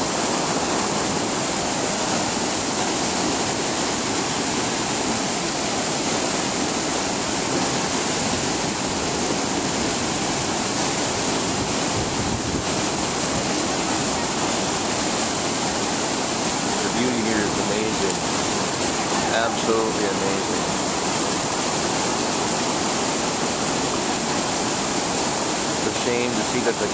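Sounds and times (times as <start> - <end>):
water rushing over waterfalls: 0.0 - 26.9.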